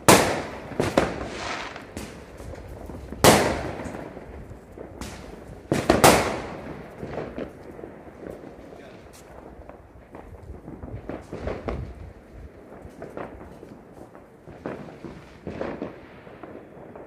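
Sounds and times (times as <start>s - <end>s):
fireworks bangs echoing: 0.0s - 17.0s
small firework pops: 0.0s - 17.0s.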